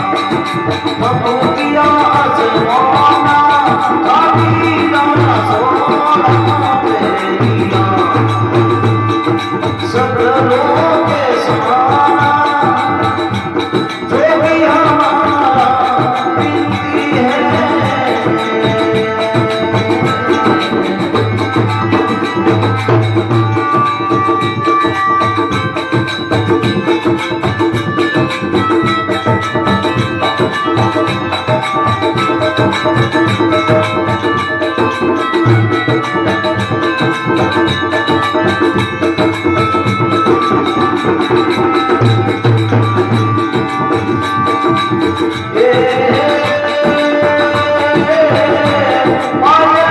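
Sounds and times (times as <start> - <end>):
hand drums beating: 0.0 - 49.9
person singing: 0.0 - 49.9.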